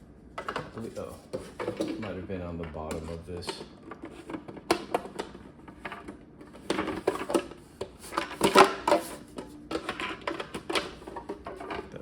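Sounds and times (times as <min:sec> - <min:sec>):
plastic parts knocking and clicking: 0:00.4 - 0:11.9.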